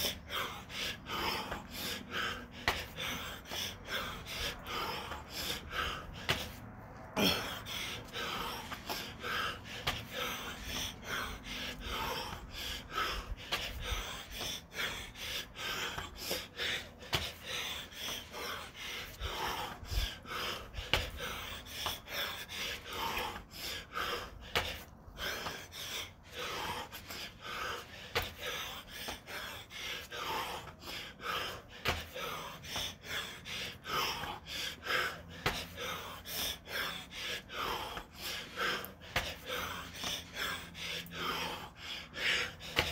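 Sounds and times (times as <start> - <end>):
man breathing hard: 0.0 - 42.9.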